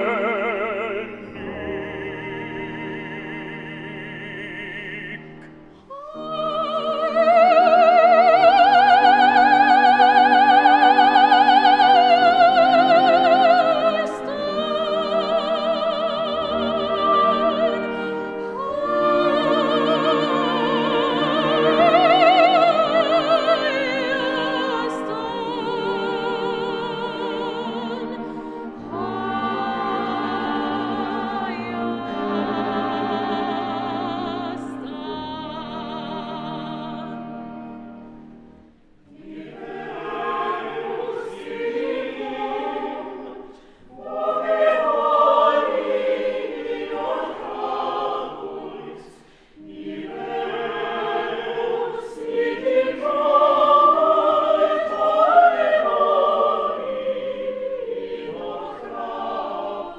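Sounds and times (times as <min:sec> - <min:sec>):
soprano singing with vibrato: 0:00.0 - 0:37.5, 0:39.1 - 0:59.9
chamber ensemble playing: 0:00.0 - 0:49.0
choir singing: 0:00.0 - 0:59.9.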